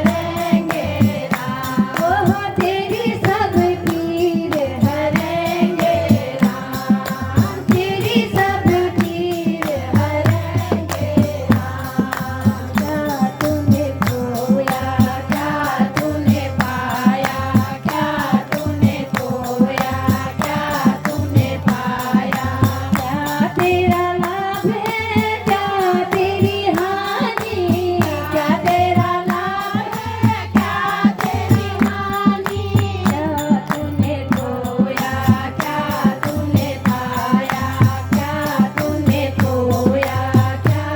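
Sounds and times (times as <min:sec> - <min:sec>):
steady percussion beat: 0:00.0 - 0:40.9
woman singing devotional song: 0:00.0 - 0:40.9.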